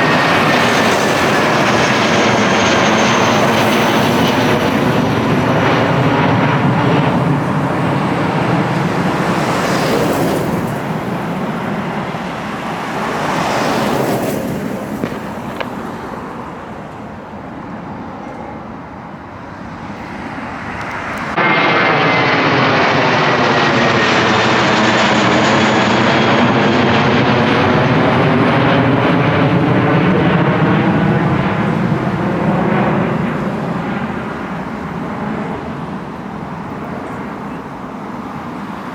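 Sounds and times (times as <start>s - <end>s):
jet passing low overhead: 0.0s - 38.9s.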